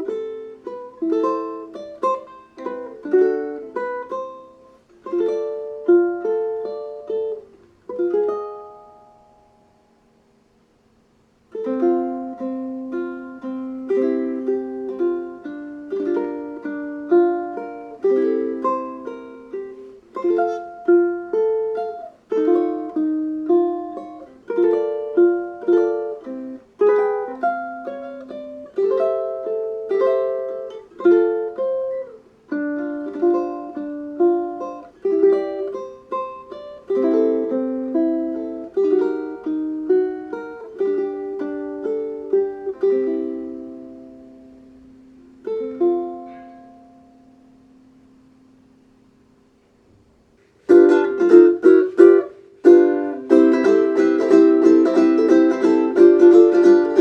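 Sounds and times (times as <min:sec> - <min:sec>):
fingerstyle ukulele: 0:00.0 - 0:57.0.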